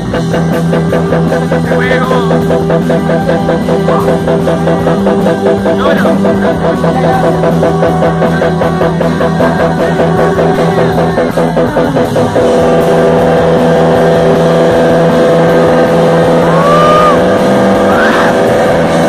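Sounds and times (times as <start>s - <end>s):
rock band playing: 0.0s - 19.0s
sustained guitar drone: 0.0s - 19.0s.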